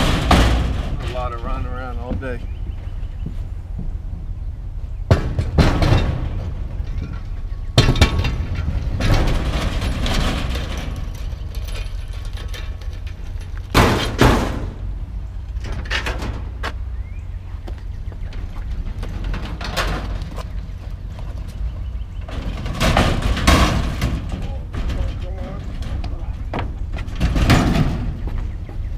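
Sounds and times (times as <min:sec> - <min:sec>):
scrap metal clanking and banging: 0:00.0 - 0:02.4, 0:05.1 - 0:16.8, 0:18.2 - 0:28.9
steady low rumble: 0:00.0 - 0:28.9.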